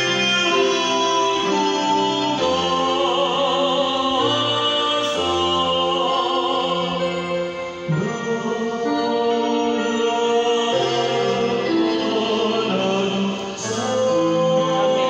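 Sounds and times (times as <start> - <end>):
digital piano chords: 0.0 - 15.0
man singing slow song: 0.0 - 15.0.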